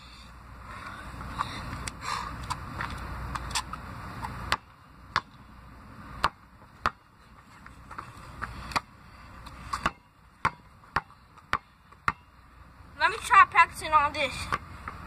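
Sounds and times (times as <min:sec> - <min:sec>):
basketball bouncing on asphalt: 0:01.3 - 0:15.0.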